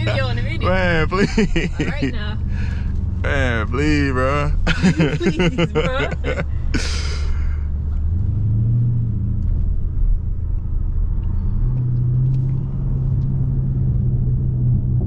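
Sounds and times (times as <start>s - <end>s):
car exhaust drone: 0.0s - 15.0s.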